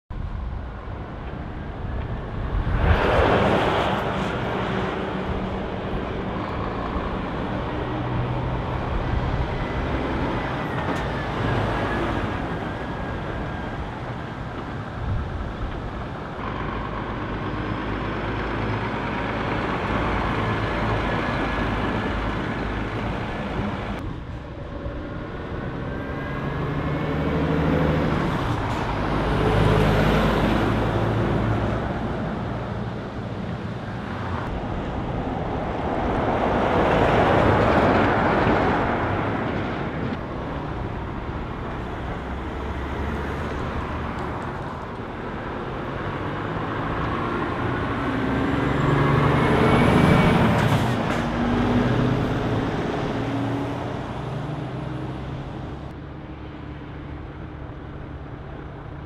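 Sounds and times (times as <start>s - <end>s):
truck diesel engines passing: 0.1s - 59.0s
truck accelerating: 0.2s - 59.0s.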